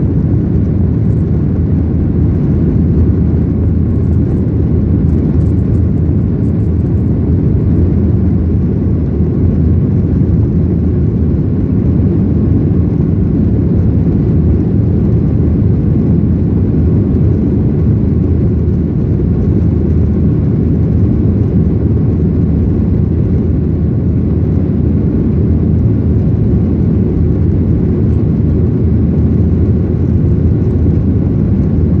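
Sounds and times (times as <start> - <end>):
jet airliner engines rumbling: 0.0 - 32.0.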